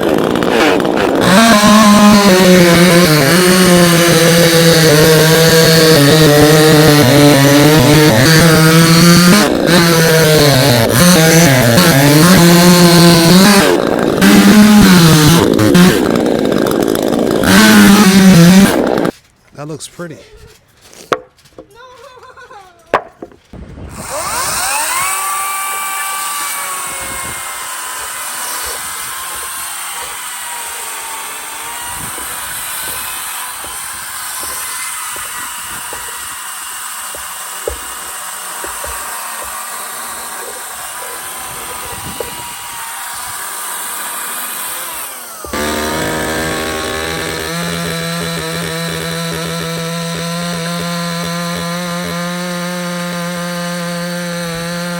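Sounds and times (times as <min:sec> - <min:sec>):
chainsaw cutting wood: 0:00.0 - 0:19.2, 0:23.2 - 0:54.9.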